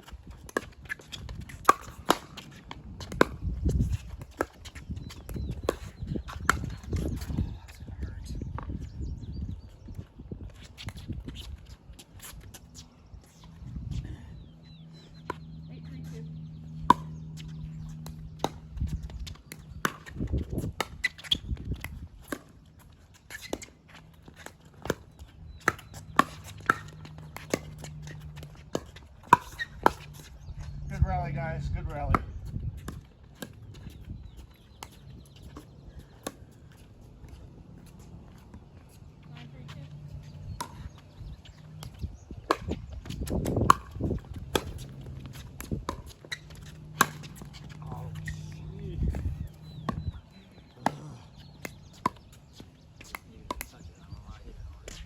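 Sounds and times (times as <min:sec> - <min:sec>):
paddles striking pickleball: 0:00.3 - 0:07.4, 0:16.5 - 0:54.2.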